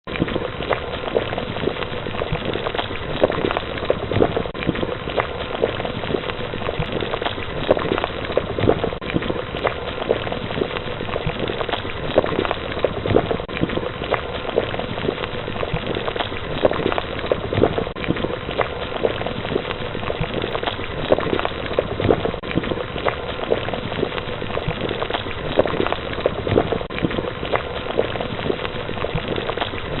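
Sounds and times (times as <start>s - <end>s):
water bubbling: 0.1s - 30.0s.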